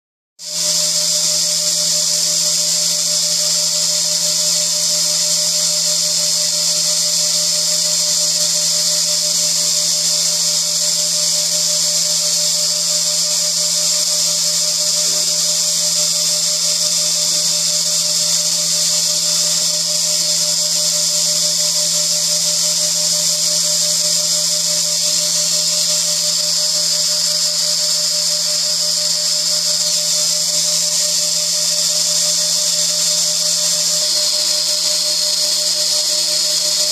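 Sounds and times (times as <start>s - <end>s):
engraving spindle whining: 0.4s - 36.9s.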